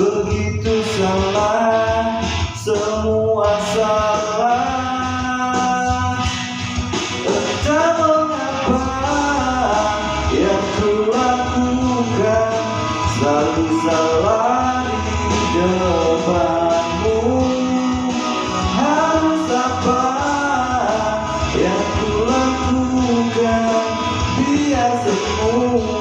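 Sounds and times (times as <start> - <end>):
guitar: 0.0 - 26.0
man singing pop-rock song: 0.0 - 26.0.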